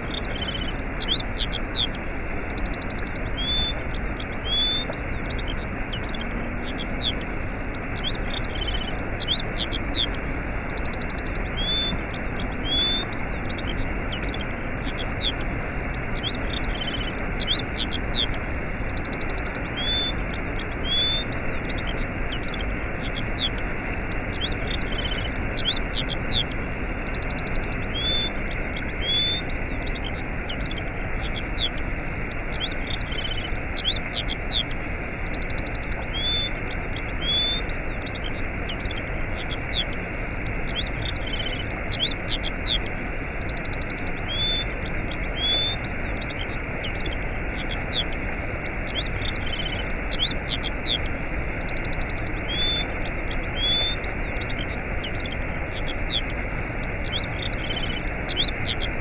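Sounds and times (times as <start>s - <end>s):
small birds chirping: 0.0s - 59.0s
waterfall rushing: 0.0s - 59.0s.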